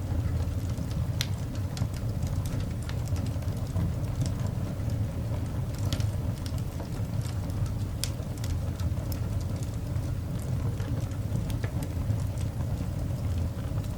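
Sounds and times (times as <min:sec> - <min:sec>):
coal fire rumbling: 0:00.0 - 0:13.9
fire crackling and popping: 0:00.0 - 0:13.9.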